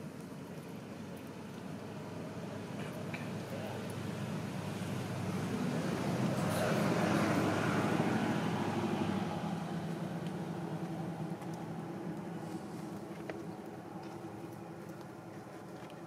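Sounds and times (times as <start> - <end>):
vehicle engine droning: 1.6 - 16.0.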